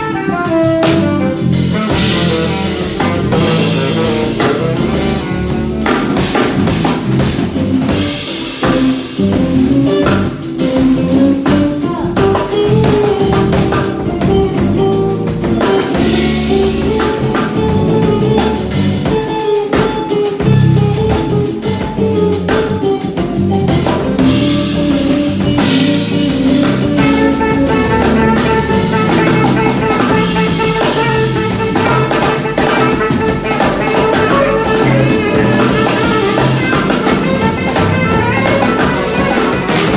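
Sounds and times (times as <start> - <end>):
live band playing: 0.0 - 39.9.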